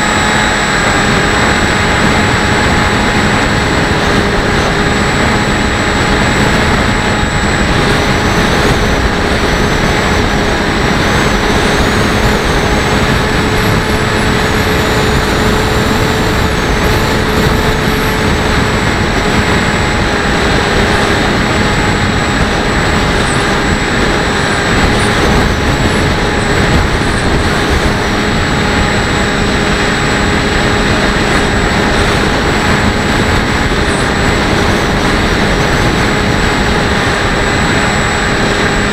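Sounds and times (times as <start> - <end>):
electric motor and propeller whine: 0.0 - 38.9
wind buffeting camera: 0.0 - 38.9.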